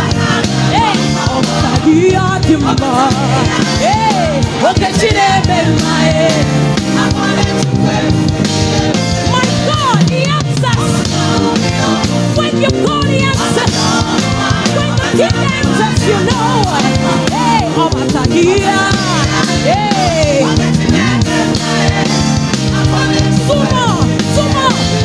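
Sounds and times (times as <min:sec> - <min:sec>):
voices singing: 0:00.0 - 0:25.0
worship band playing: 0:00.0 - 0:25.0.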